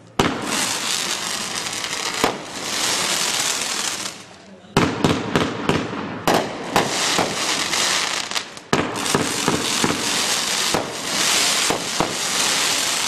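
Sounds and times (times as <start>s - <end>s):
firework crackle: 0.0s - 13.0s
firework reports: 0.0s - 13.0s.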